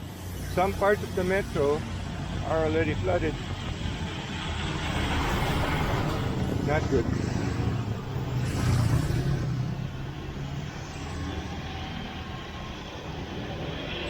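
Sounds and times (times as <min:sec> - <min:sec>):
vehicle engine rumble: 0:00.2 - 0:14.0.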